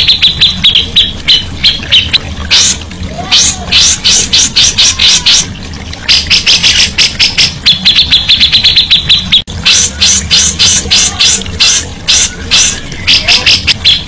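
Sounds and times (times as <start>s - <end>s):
clear high bird notes: 0.0s - 14.0s
songbird chattering: 0.0s - 14.0s
steady low hum: 0.0s - 14.0s.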